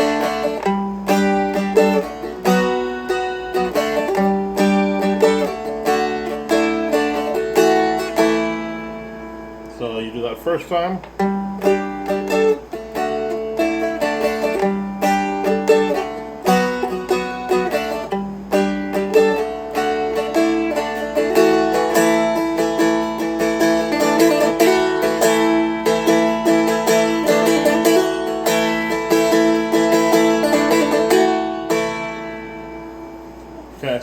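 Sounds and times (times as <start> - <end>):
dulcimer picked melody: 0.0 - 10.0, 11.2 - 33.4.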